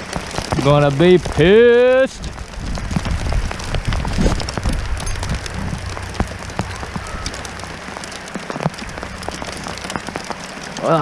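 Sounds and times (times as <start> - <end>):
low rumble: 0.0 - 10.8
rain hissing on water: 0.0 - 11.0
sharp raindrop hits: 0.0 - 11.0.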